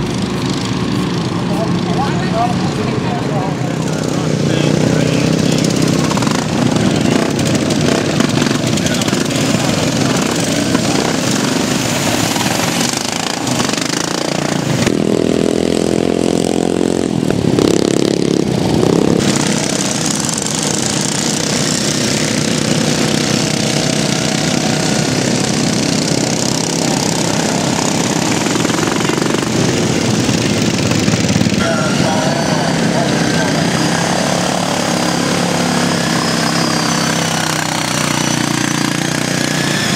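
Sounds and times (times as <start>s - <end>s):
ride-on mower engines racing: 0.0s - 39.9s.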